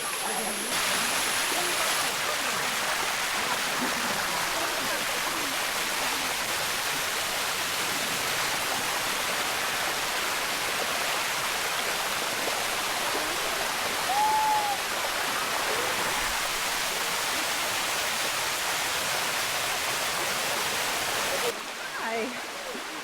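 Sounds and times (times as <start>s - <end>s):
water cascading over rocks: 0.0s - 23.0s.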